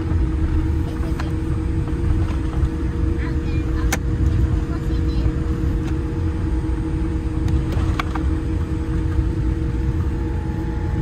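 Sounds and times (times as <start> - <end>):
airliner cabin rumble: 0.0 - 11.0
faint constant hum: 0.0 - 11.0.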